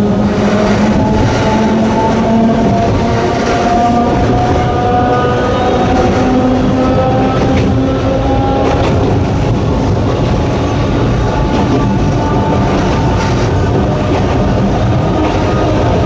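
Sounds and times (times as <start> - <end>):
train motor whine: 0.0 - 16.0
wheel and rail rumble: 0.0 - 16.0.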